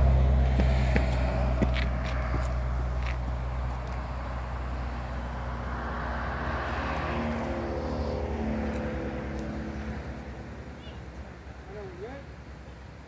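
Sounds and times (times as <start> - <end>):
vehicle passing by: 0.0 - 11.2
steady low rumble: 0.0 - 13.0.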